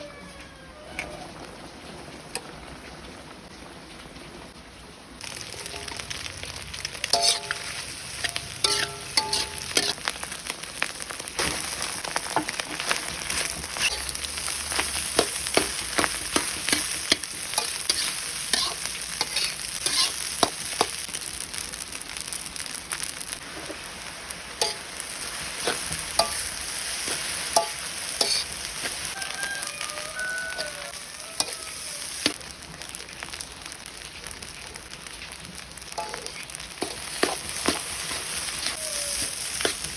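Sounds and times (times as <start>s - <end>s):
food sizzling in a pan: 5.2s - 39.9s.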